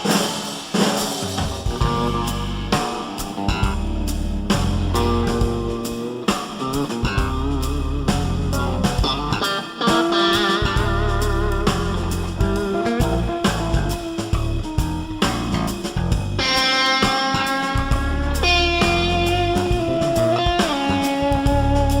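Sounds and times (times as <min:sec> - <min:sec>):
blues-rock music: 0:00.0 - 0:22.0.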